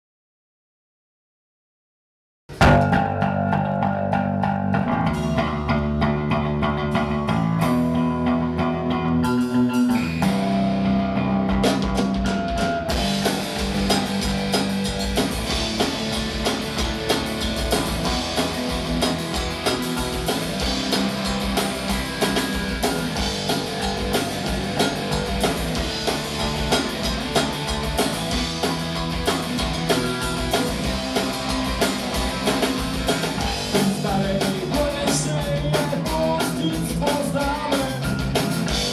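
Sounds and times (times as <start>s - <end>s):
punk rock band playing: 2.5s - 38.9s.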